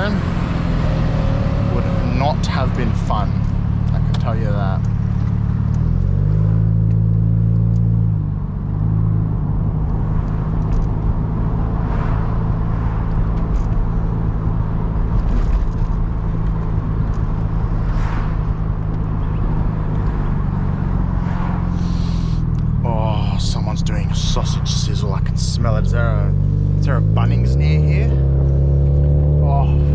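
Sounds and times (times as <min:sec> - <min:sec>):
car engine: 0:00.0 - 0:29.9
road noise: 0:00.0 - 0:29.9.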